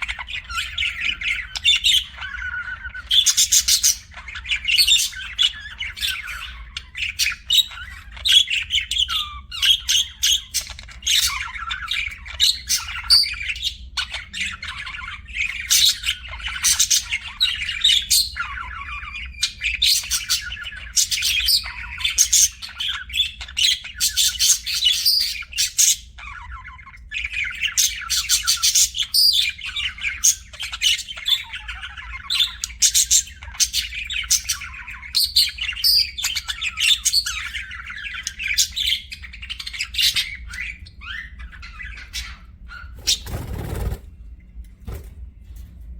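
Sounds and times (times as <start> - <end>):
budgerigars chirping and warbling: 0.0 - 45.8.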